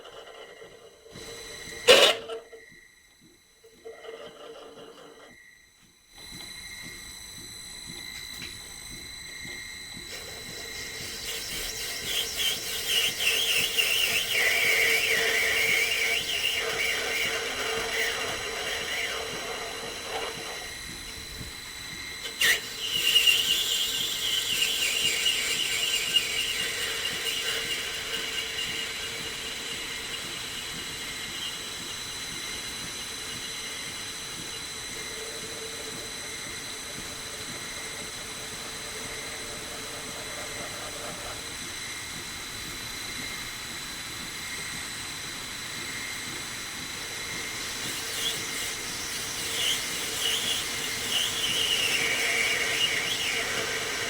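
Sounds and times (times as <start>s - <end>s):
cutting tool squealing: 0.0s - 2.9s, 3.7s - 5.6s, 9.3s - 41.6s, 47.1s - 54.0s
lathe whining: 0.0s - 54.0s.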